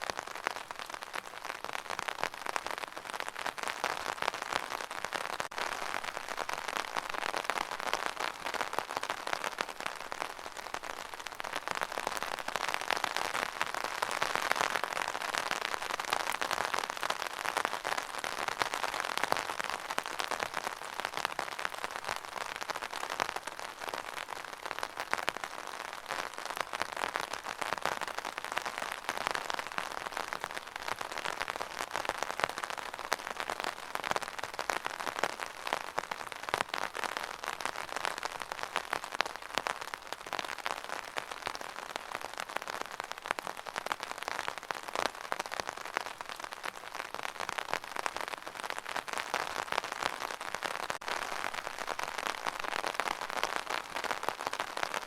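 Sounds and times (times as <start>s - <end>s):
rain on hard surface: 0.0s - 55.0s.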